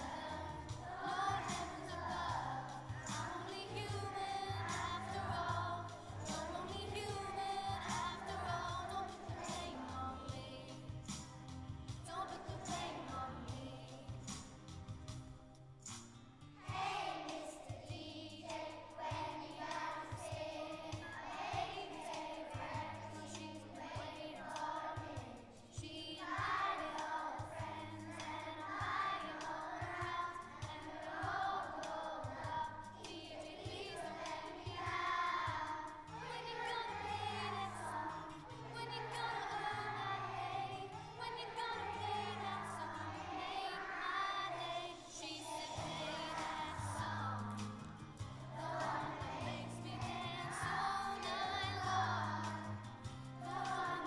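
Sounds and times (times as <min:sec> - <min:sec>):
children's choir singing: 0:00.0 - 0:15.2, 0:16.6 - 0:54.0.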